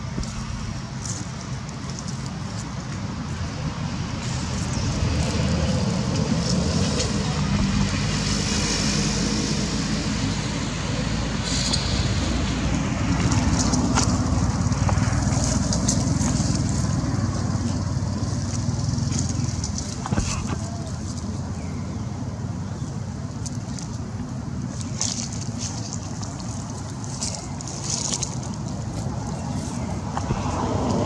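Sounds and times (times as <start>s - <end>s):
dry leaves crackling and rustling: 0.0s - 21.8s, 23.5s - 31.0s
low outdoor rumble: 0.0s - 31.0s.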